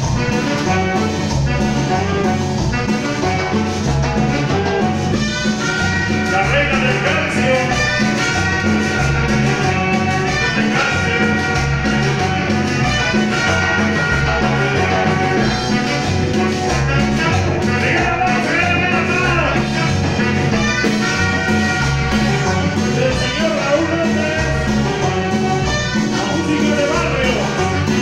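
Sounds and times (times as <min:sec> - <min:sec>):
bass guitar: 0:00.0 - 0:28.0
congas: 0:00.0 - 0:28.0
live latin dance band: 0:00.0 - 0:28.0.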